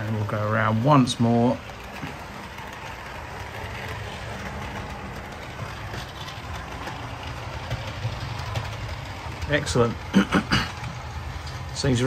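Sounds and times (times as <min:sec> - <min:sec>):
model train motor hum: 0:00.0 - 0:12.0
wheels clicking on rails: 0:00.0 - 0:12.0.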